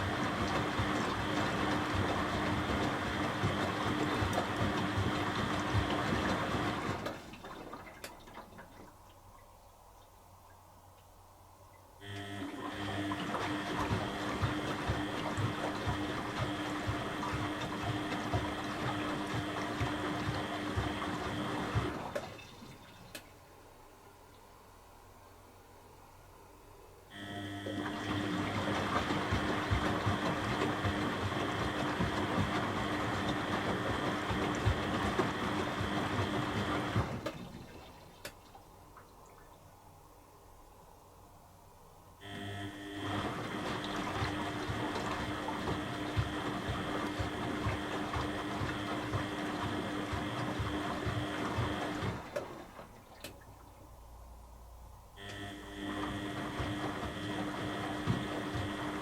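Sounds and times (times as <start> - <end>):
washing machine running: 0.0 - 9.5, 11.9 - 26.0, 27.0 - 41.1, 41.9 - 59.0
washing machine water noise: 0.0 - 59.0.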